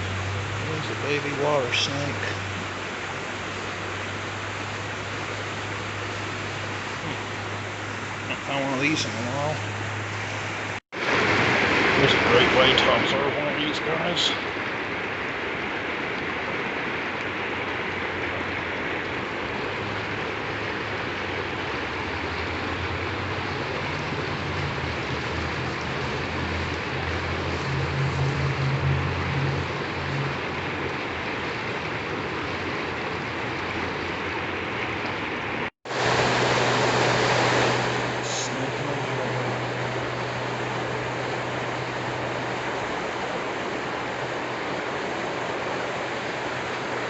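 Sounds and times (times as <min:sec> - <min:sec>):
flowing creek water: 0:00.0 - 0:47.0
low steady hum: 0:00.0 - 0:47.0.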